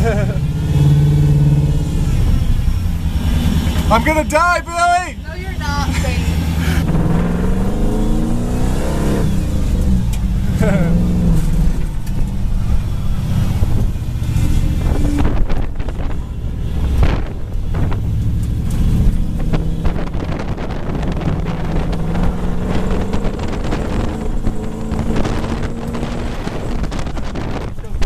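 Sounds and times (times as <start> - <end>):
truck engine revving: 0.0 - 28.0
wind buffeting microphone: 5.4 - 28.0.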